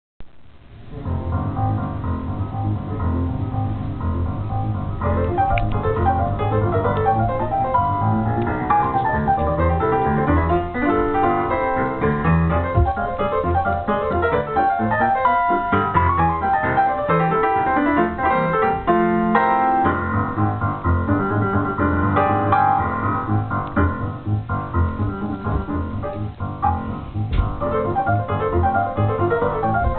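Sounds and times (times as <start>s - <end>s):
boogie-woogie piano music: 0.7s - 29.9s.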